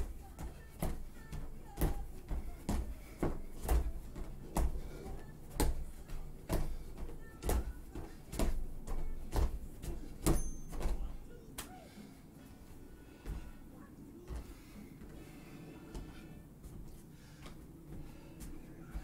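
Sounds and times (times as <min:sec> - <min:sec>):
feet thudding on gym mats: 0:00.0 - 0:11.3, 0:13.0 - 0:19.0.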